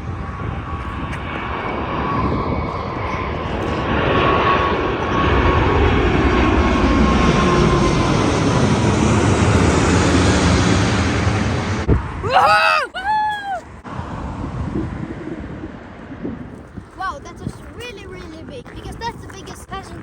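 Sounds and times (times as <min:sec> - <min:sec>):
jet plane taking off overhead: 0:00.0 - 0:16.9.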